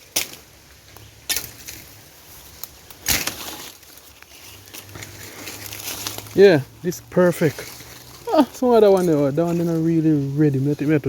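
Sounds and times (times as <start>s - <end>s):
crunching rustles in dry bush: 0.0s - 11.0s.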